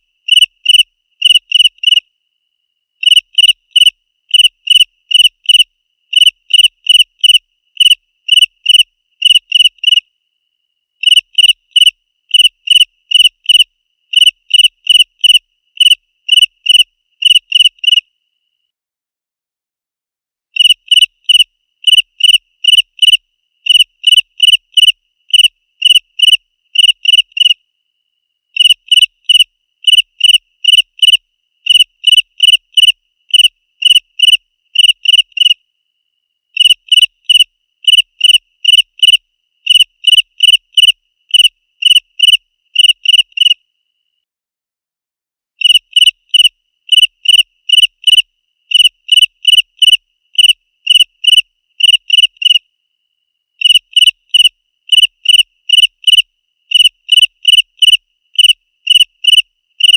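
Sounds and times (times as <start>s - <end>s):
cricket chirping: 0.0s - 18.7s, 20.6s - 44.2s, 45.6s - 59.9s.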